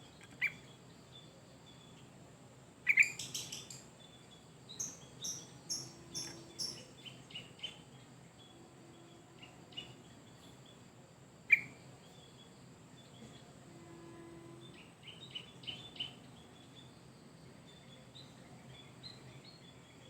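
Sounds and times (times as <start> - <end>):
bird chirping: 0.0 - 2.1, 2.8 - 20.0.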